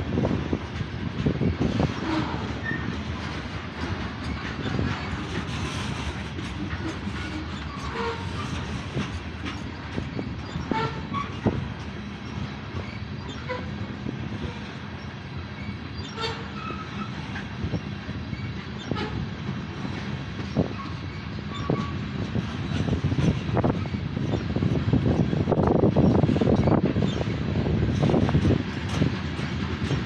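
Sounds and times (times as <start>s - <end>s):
steel wheels rumbling on rail: 0.0s - 30.0s
train cars clanking: 0.0s - 30.0s
wheel squeals: 1.4s - 3.3s, 4.2s - 11.6s, 12.2s - 13.8s, 14.4s - 19.2s, 19.9s - 29.1s.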